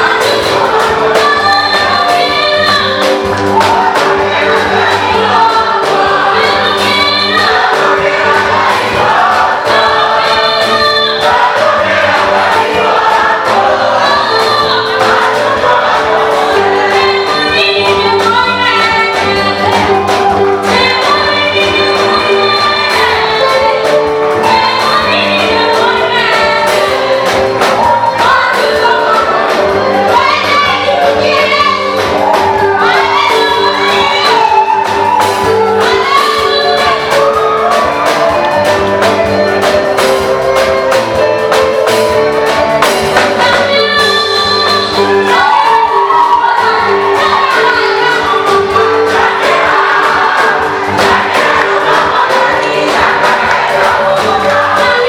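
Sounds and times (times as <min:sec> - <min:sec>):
choir singing gospel song: 0:00.0 - 0:55.0
drums: 0:00.0 - 0:55.0
steady bass line: 0:00.0 - 0:55.0
woman singing lead: 0:00.0 - 0:55.0.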